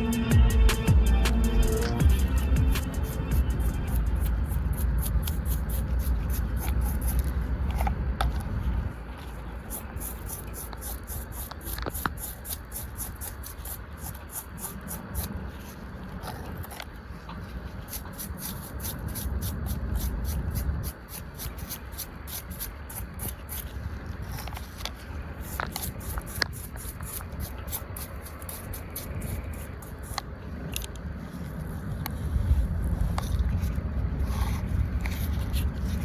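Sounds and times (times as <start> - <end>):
small brush scrubbing toy car: 2.8 - 36.0.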